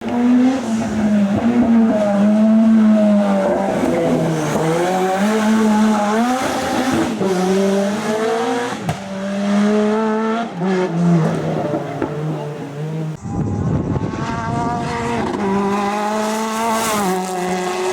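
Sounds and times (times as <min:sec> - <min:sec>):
racing car engine at full throttle: 0:00.0 - 0:17.9.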